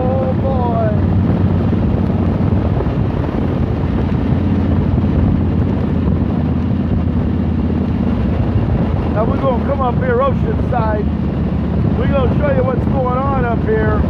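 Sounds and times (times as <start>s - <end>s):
motorcycle engine cruising: 0.0s - 14.0s
wind noise on microphone: 0.0s - 14.0s.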